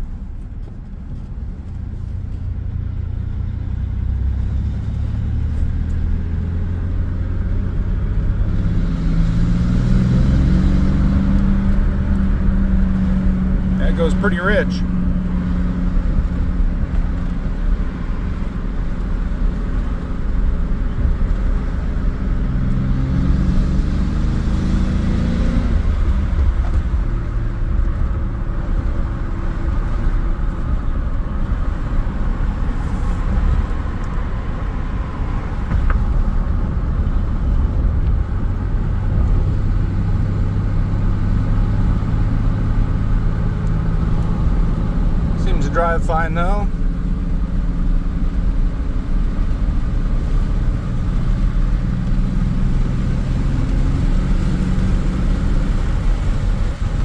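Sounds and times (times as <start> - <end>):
road rumble: 0.0 - 57.0
truck engine driving: 0.0 - 57.0.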